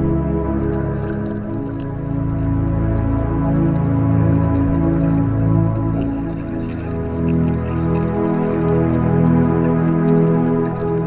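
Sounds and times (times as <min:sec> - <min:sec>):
soft slow ambient music: 0:00.0 - 0:11.0.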